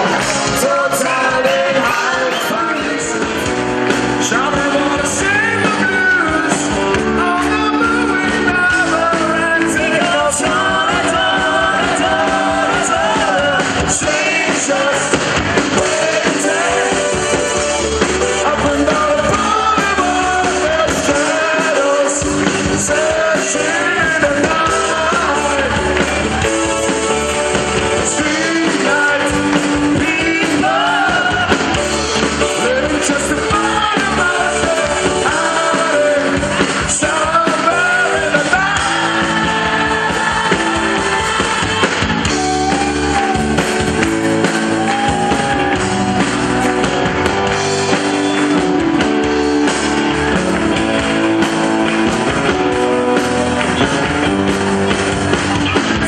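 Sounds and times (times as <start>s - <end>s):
man singing lead: 0.0s - 47.3s
electric guitars: 0.0s - 56.0s.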